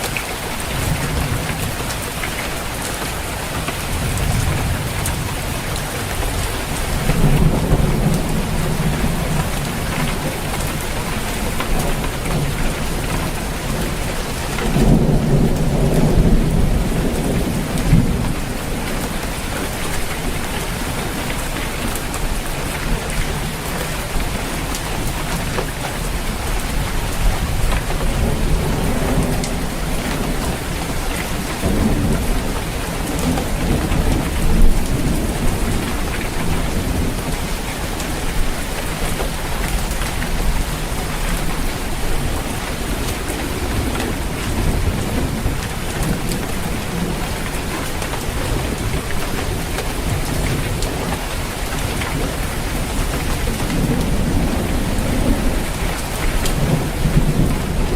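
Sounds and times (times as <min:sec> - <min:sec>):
rain pattering on a roof: 0:00.0 - 0:57.9
low thunder rumbling: 0:03.6 - 0:57.9.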